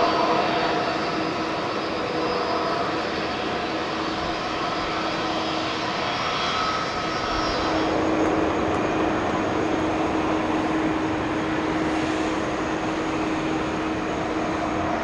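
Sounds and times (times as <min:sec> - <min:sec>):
faint engine whines: 0:00.0 - 0:15.0
jet engines running: 0:00.0 - 0:15.0.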